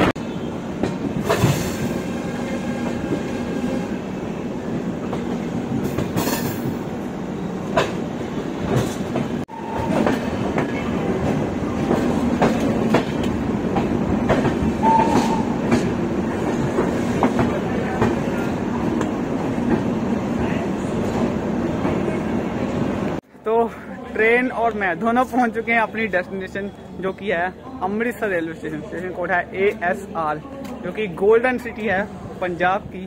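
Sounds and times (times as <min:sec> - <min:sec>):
train rumble and rail noise: 0:00.0 - 0:33.0.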